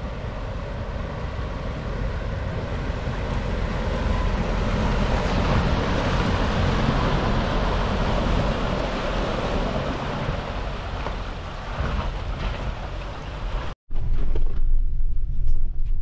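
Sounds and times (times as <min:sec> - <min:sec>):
water rushing and splashing: 0:00.0 - 0:13.8.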